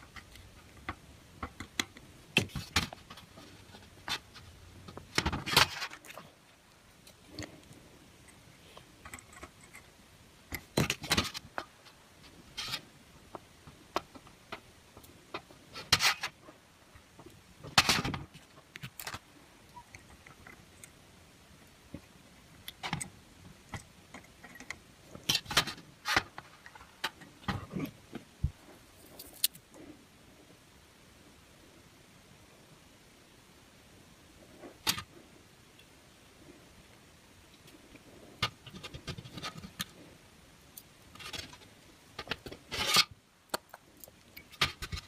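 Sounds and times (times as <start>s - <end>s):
handling clicks taps and scrapes: 0.0s - 29.8s, 34.6s - 35.1s, 36.9s - 45.0s.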